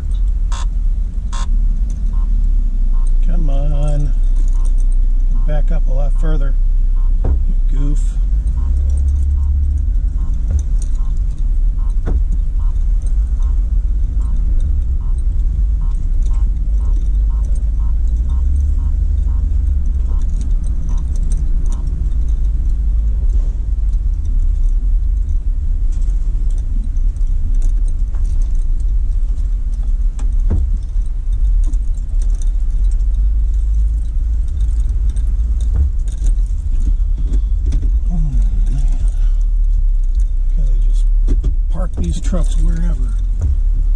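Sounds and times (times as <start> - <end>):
car road noise rumble: 0.0 - 43.9
turn signal ticking: 0.0 - 43.9
light rattle: 7.2 - 43.9.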